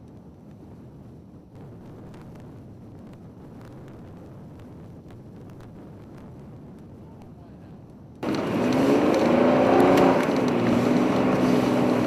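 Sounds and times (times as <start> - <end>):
blizzard wind: 0.0 - 12.0
vehicle rumbling: 1.0 - 12.0.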